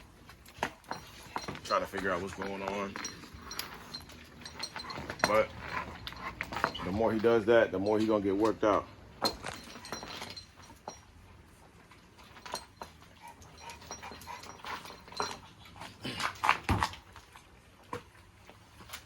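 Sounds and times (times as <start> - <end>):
clinks and knocks: 0.0 - 11.5, 12.1 - 15.9.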